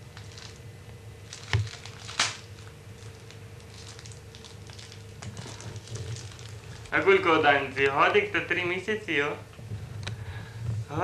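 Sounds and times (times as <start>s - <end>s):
room and tape hum: 0.0s - 11.0s.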